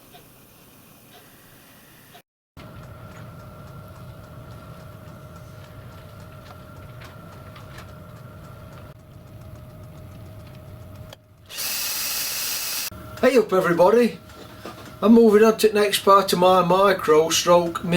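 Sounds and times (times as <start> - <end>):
workshop machine motor humming: 0.0 - 17.9.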